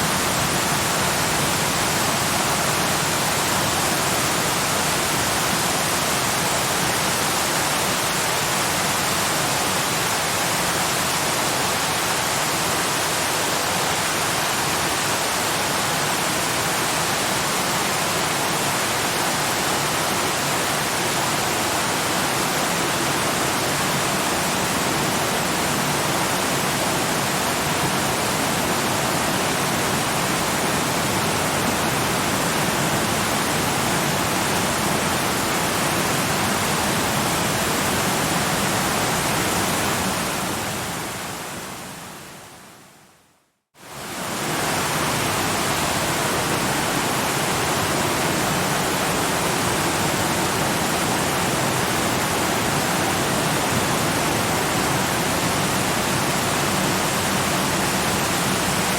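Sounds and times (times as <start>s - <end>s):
waterfall rushing: 0.0s - 42.2s, 43.8s - 58.9s.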